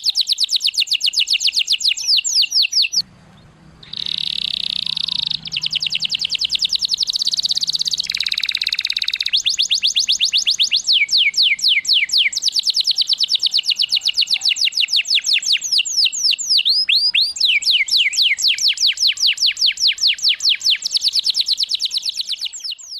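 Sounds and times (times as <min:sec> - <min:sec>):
canary trilling: 0:00.0 - 0:22.9.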